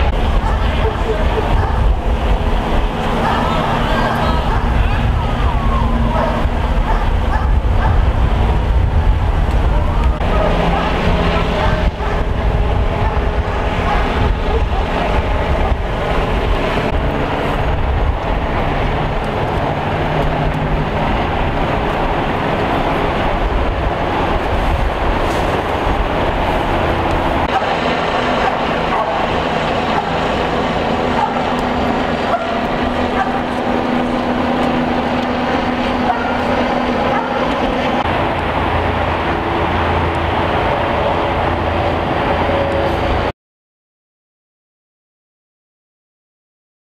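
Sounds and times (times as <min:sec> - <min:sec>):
vehicle engine and traffic rumble: 0:00.0 - 0:43.3.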